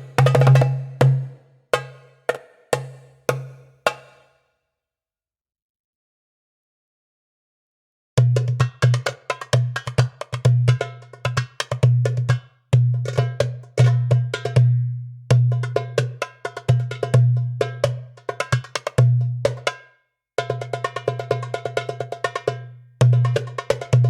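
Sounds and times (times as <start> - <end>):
hand drum patterns: 0.0 - 4.3, 8.2 - 19.8, 20.4 - 24.0.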